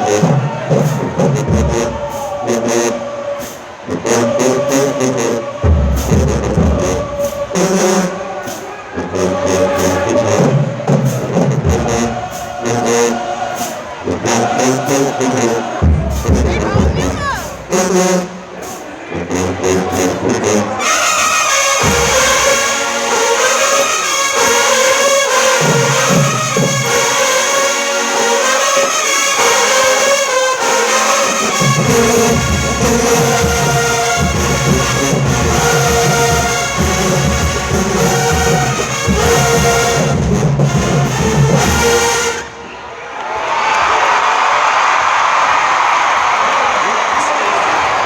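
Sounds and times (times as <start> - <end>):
marching band playing: 0.0 - 43.0.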